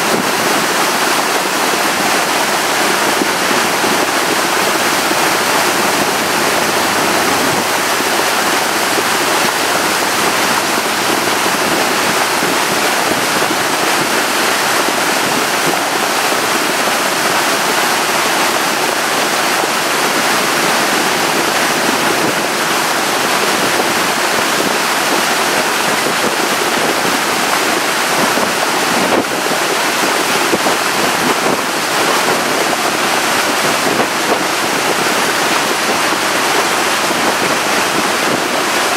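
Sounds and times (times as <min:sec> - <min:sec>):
boat water noise: 0:00.0 - 0:38.9
wind on microphone: 0:00.0 - 0:38.9.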